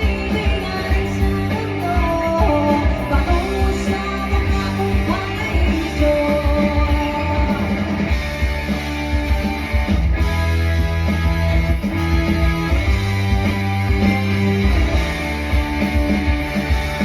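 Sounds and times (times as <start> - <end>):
bass line: 0.0 - 17.0
electric guitar: 0.0 - 17.0
live rock band music: 0.0 - 17.0.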